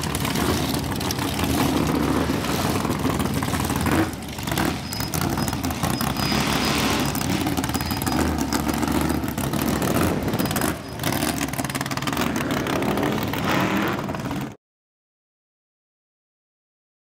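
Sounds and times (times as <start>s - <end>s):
engines revving: 0.0s - 14.6s
race car engines idling rough: 0.0s - 14.6s.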